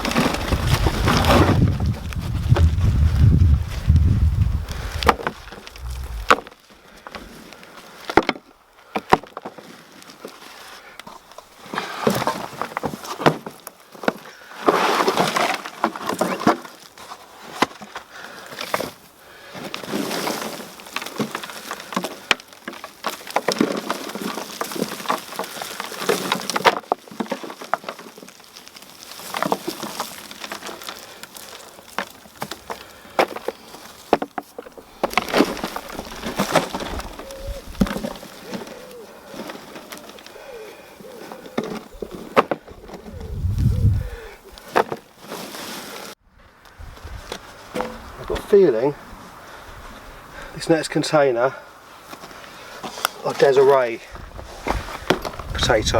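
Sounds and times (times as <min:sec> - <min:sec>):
hands rummaging through soil: 0:00.0 - 0:08.3, 0:09.2 - 0:46.2, 0:52.0 - 0:55.9.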